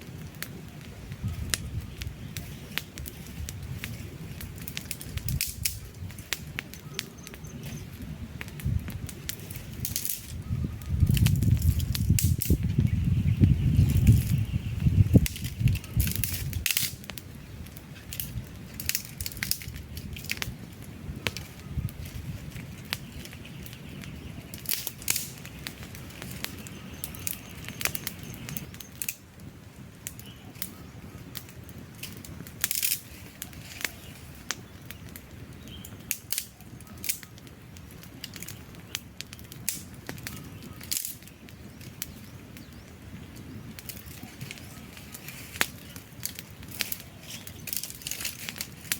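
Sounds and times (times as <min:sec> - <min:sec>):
campfire crackles and pops: 0:00.0 - 0:48.9
low rumble of flames: 0:00.0 - 0:48.9.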